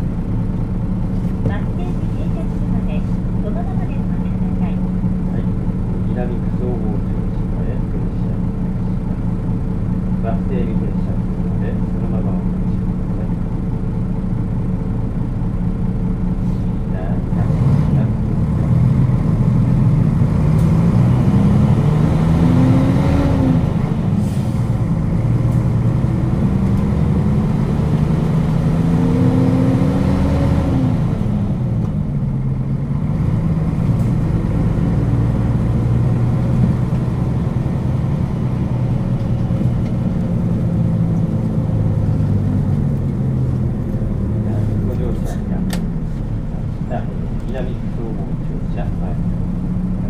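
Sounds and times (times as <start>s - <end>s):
bus diesel engine accelerating: 0.0s - 50.0s.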